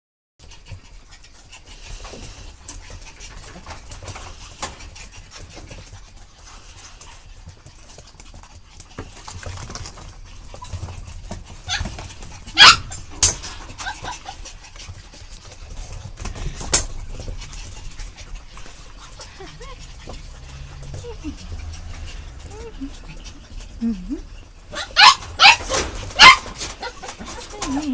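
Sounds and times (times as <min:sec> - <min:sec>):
puppies panting and scuffling: 0:00.4 - 0:27.9
small clicks and rustles: 0:00.5 - 0:23.8.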